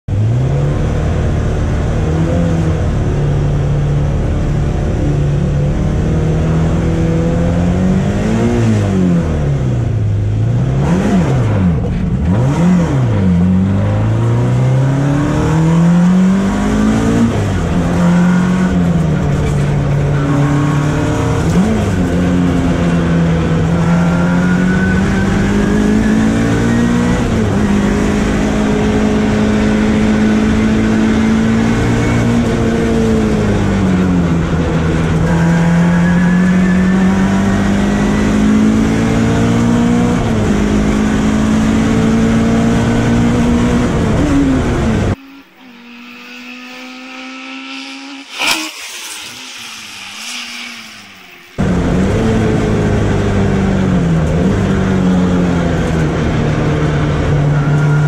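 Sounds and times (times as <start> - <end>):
race car engine revving: 0.1 - 58.0.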